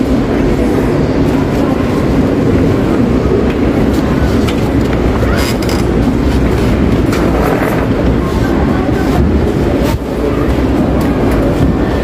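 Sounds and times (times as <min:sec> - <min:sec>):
low rumble of a hall: 0:00.0 - 0:12.0.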